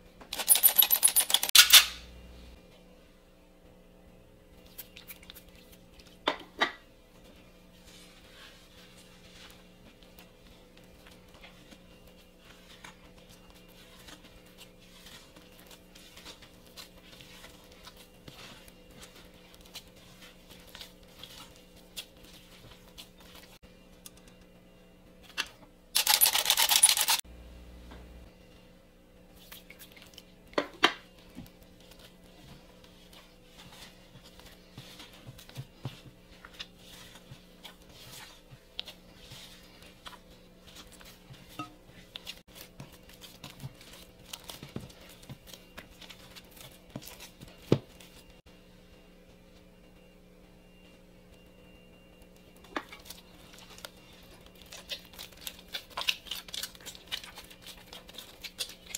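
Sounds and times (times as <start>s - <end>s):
steady low hum: 1.6s - 6.2s, 6.8s - 54.8s.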